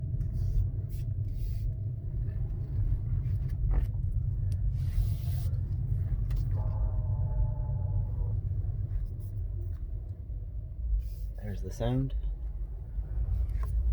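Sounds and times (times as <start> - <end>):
car rolling with low rumble: 0.0 - 13.9.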